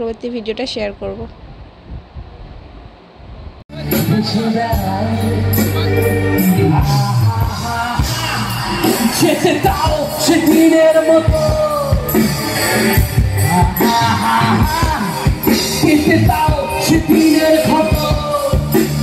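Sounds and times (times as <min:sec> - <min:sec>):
faint crowd noise: 0:00.0 - 0:19.0
singer with band over pa: 0:03.7 - 0:19.0.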